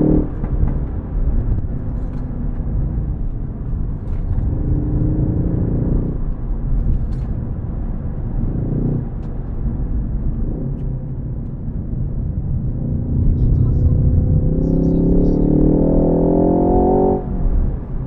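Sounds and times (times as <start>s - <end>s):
car engine accelerating: 0.0s - 18.0s
road rumble: 0.0s - 18.0s.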